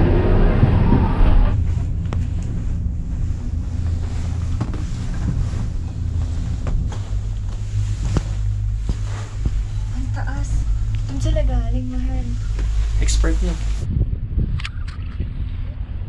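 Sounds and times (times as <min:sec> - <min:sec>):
gondola cabin low rumble: 0:00.0 - 0:16.0
wind on microphone: 0:00.0 - 0:16.0.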